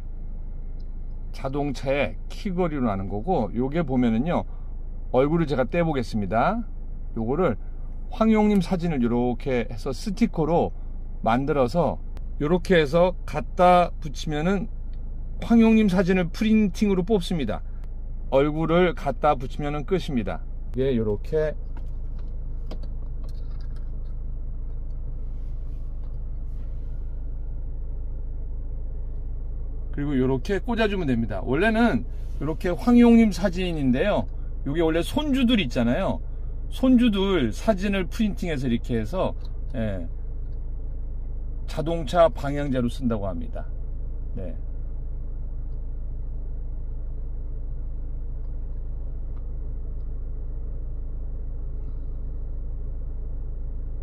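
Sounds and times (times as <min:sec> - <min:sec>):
car idling: 0:00.0 - 0:54.0.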